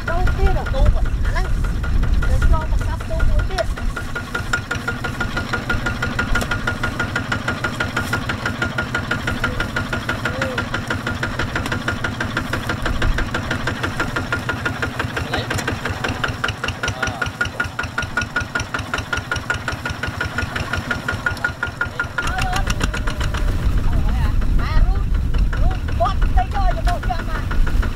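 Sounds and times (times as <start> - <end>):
diesel engine knocking: 0.0 - 27.9.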